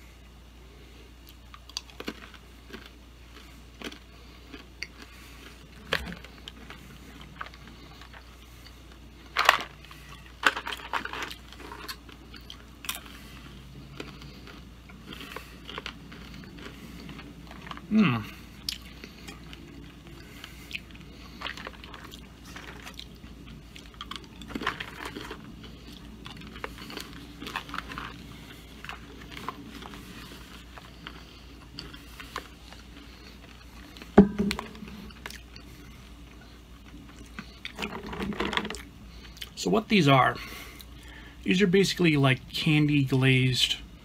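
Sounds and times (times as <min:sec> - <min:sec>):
steady low hum: 0:00.0 - 0:44.0
person chewing and crunching nuts: 0:00.6 - 0:43.3.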